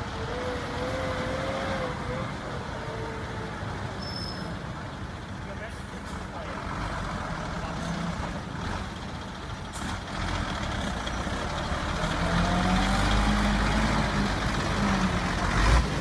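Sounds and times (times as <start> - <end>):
diesel truck engine passing: 0.0 - 16.0.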